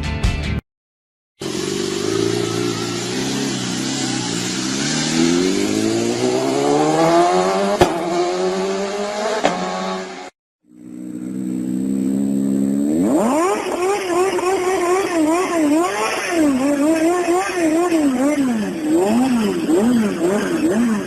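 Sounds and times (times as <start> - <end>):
engine accelerating: 1.4 - 21.0.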